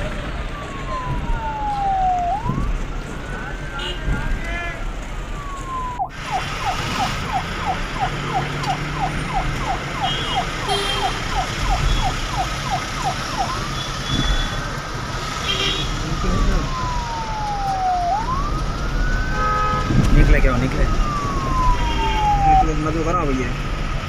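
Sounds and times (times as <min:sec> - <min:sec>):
police siren yelp and wail: 0:00.0 - 0:03.6, 0:05.2 - 0:14.3, 0:16.0 - 0:23.4.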